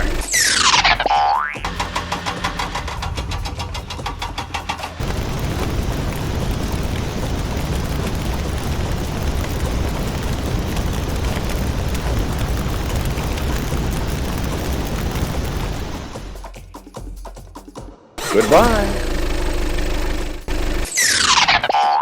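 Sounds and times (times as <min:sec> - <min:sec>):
loud rumbling machine: 0:00.0 - 0:01.0, 0:01.6 - 0:16.4, 0:18.2 - 0:20.9.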